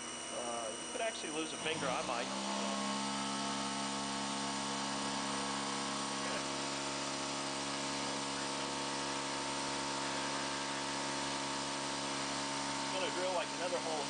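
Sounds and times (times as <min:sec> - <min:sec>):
mill spindle whining: 0:00.0 - 0:14.0.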